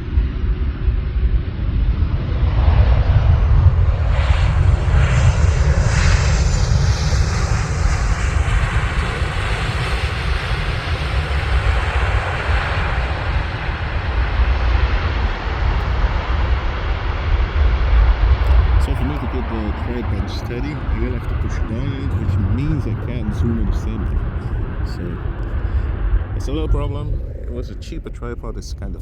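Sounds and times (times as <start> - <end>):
jet airliner passing low: 0.0 - 29.0.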